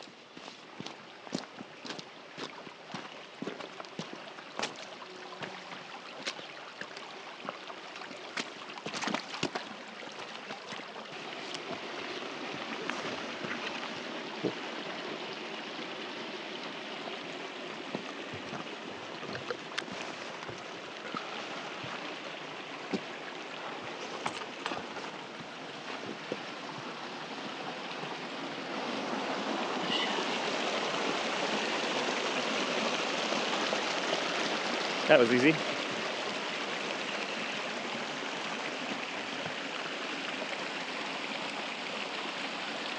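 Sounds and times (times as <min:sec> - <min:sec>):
creek water rushing over rocks: 0:00.0 - 0:42.9.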